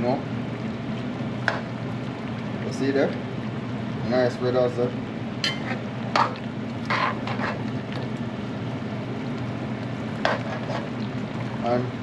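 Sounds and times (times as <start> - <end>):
pot boiling: 0.0 - 12.0
steady background hum: 0.0 - 12.0.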